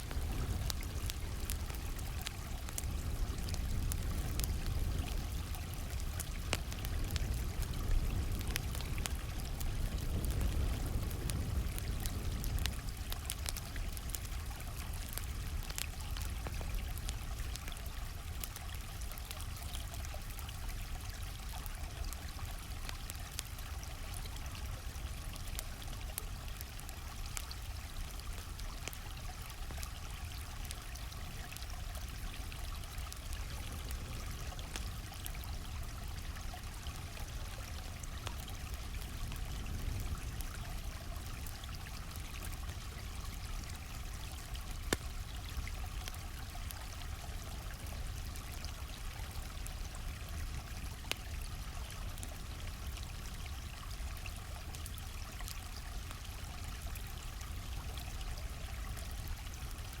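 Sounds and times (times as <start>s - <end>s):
campfire crackling: 0.0s - 60.0s
stream flowing: 0.0s - 60.0s.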